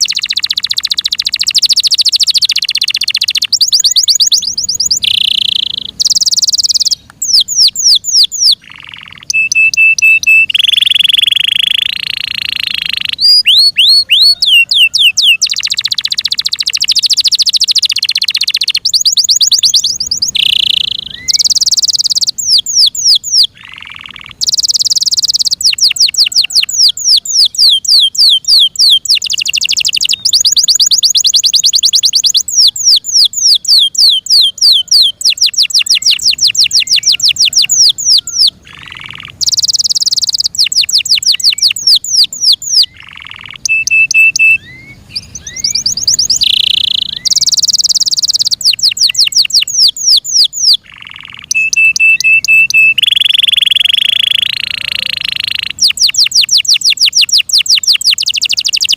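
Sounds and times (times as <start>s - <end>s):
canary singing: 0.0s - 58.9s.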